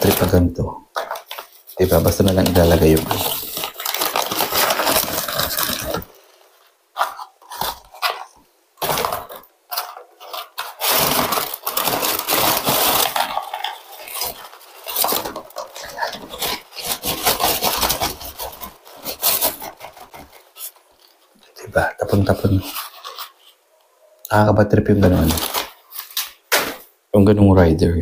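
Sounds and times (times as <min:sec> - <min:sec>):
paper bag crinkling and rustling: 0:00.0 - 0:23.6, 0:25.0 - 0:26.8.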